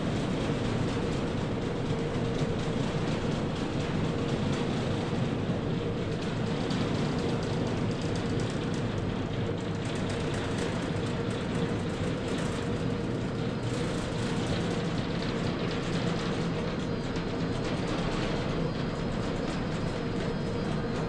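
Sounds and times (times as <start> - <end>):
conveyor lift mechanical rumble: 0.0 - 21.0.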